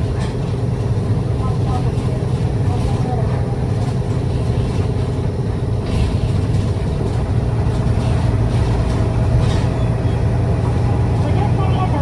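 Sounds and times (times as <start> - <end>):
bus diesel engine humming: 0.0 - 12.0.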